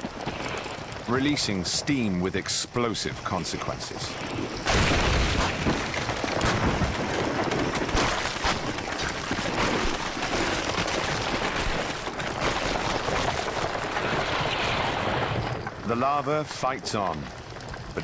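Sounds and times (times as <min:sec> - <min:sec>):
underwater lava crackling and popping: 0:00.0 - 0:18.0.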